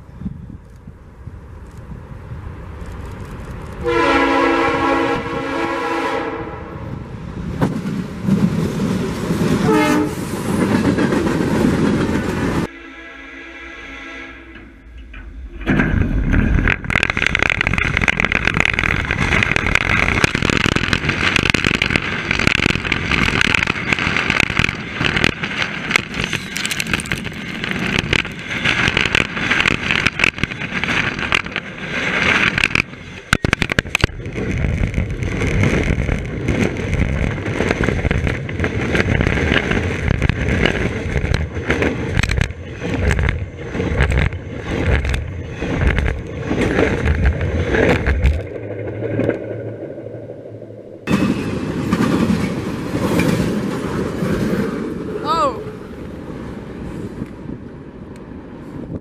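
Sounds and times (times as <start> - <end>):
train wheels rumbling on rail: 0.0 - 12.8, 14.3 - 59.0
rhythmic low thumps of railcars: 0.0 - 13.1, 14.2 - 55.2.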